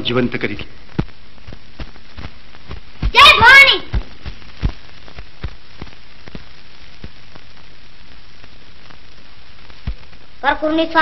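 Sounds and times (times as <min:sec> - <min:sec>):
film soundtrack hiss and crackle: 0:00.0 - 0:11.0
clicks and pops: 0:00.9 - 0:10.3.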